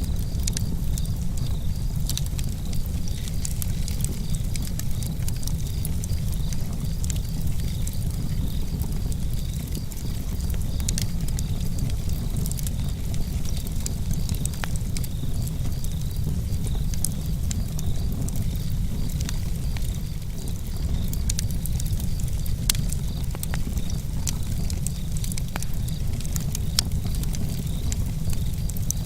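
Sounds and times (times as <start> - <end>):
campfire crackling: 0.0 - 29.0
fire pops and snaps: 0.0 - 29.0
low fire rumble: 0.0 - 29.0.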